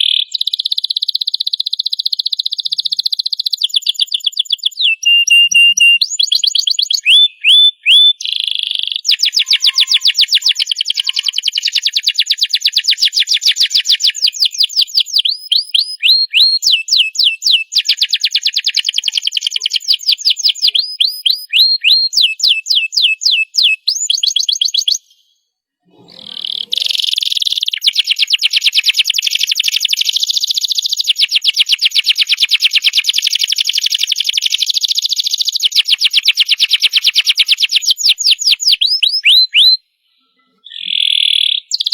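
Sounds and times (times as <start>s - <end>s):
canary singing trills: 0.0s - 41.9s.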